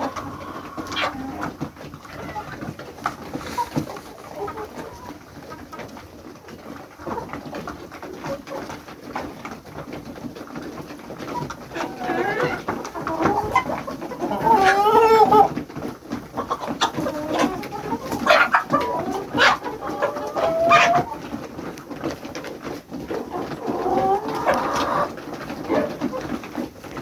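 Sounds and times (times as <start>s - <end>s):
farmyard birds calling: 0.0s - 27.0s.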